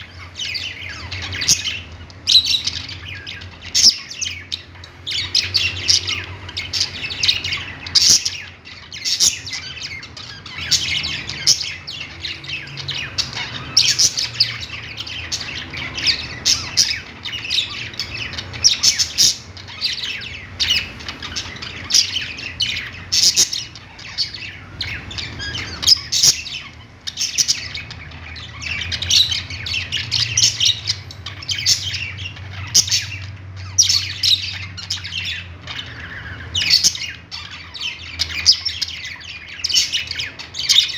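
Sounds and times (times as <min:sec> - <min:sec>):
budgerigars chirping and squawking: 0:00.0 - 0:40.9.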